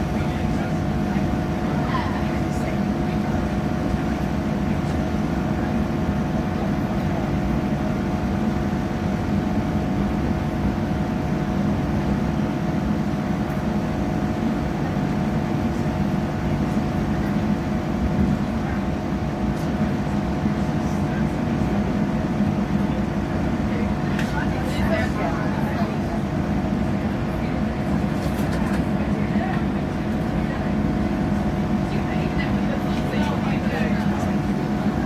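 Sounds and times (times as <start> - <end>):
train engine hum: 0.0 - 35.0.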